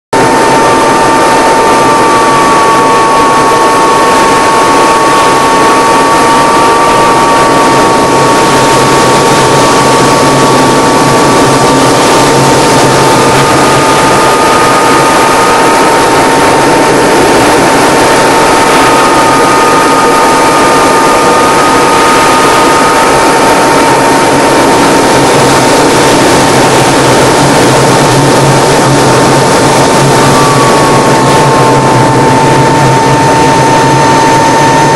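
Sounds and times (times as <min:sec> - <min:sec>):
propeller plane engine running: 0:00.1 - 0:34.9
high wavering whine: 0:00.2 - 0:34.9.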